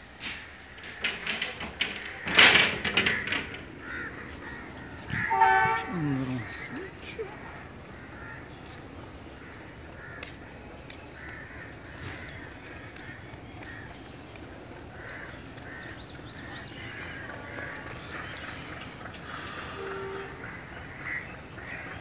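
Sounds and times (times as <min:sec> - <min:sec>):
crows cawing: 0:03.4 - 0:14.0, 0:14.8 - 0:22.0.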